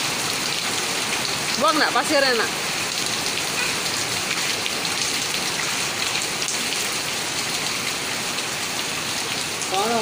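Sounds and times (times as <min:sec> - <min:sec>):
rain on concrete: 0:00.0 - 0:10.0.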